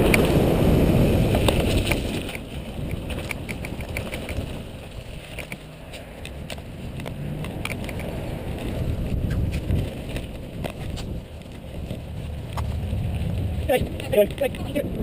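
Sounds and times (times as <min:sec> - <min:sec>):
bike clicks and rattles: 0:00.0 - 0:15.0
bike tyre and wind rumble: 0:00.0 - 0:15.0.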